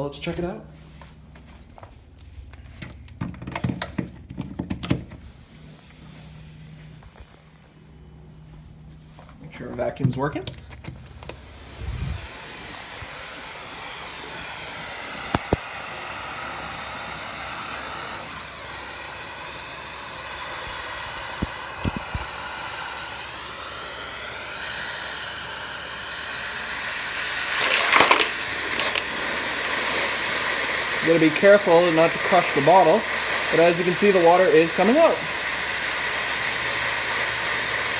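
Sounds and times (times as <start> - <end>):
vacuum cleaner running: 4.9 - 37.9.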